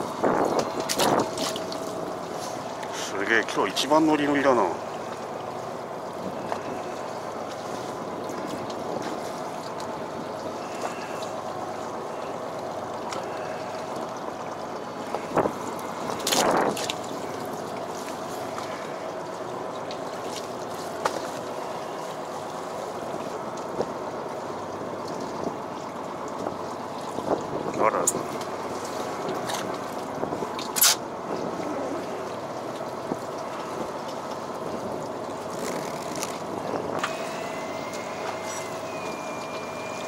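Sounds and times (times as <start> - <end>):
boat machinery hum: 0.0 - 40.0
water washing along hull: 0.0 - 40.0.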